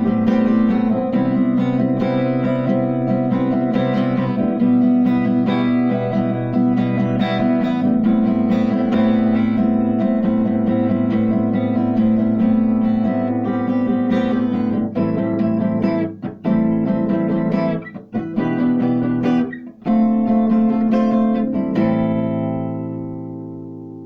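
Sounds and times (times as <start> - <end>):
guitar plucked and strummed: 0.0 - 24.0.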